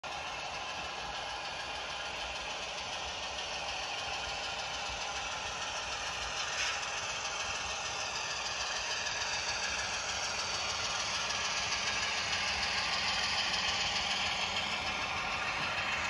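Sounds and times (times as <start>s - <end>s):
model train running past: 0.1s - 16.0s
rattle: 0.1s - 16.0s.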